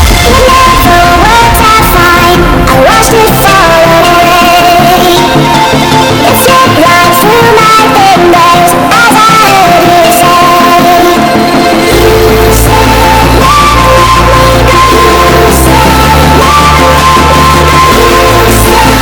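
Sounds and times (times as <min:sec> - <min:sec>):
heavy bass line: 0:00.0 - 0:19.0
person singing over instruments: 0:00.0 - 0:19.0.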